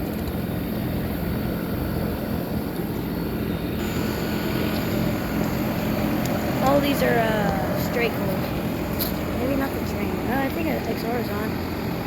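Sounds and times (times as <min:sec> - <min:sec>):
compressor low hum: 0:00.0 - 0:12.0
outdoor fan whoosh: 0:00.0 - 0:12.0.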